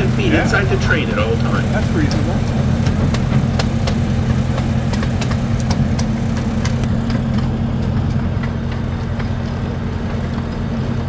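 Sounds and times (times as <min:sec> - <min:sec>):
sharp clicks and ticks: 0:00.0 - 0:10.8
locomotive engine idling: 0:00.0 - 0:11.0.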